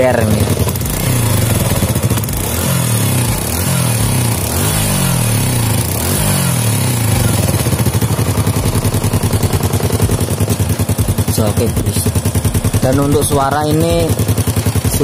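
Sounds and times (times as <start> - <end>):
exhaust popping: 0.0 - 15.0
motorcycle engine revving and idling: 0.0 - 15.0.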